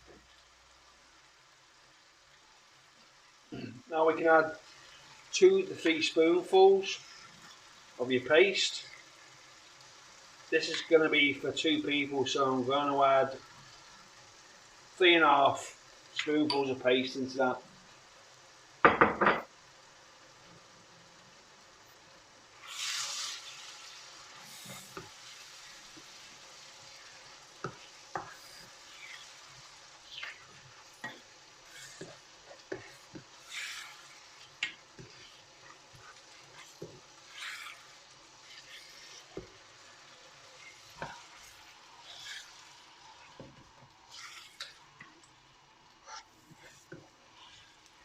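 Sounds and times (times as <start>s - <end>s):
curry paste sizzling in a pan: 0.0s - 48.0s.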